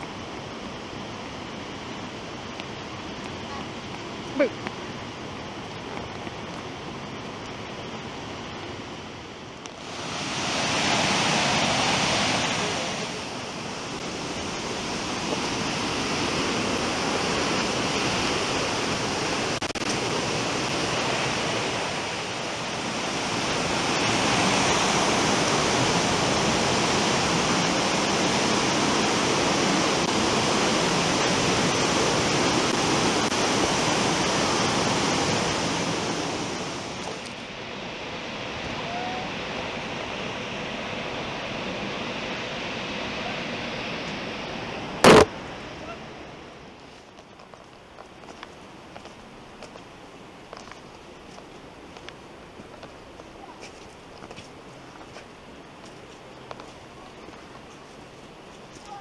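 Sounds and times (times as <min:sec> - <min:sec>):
waterfall and rushing rapids: 0:00.0 - 0:59.0.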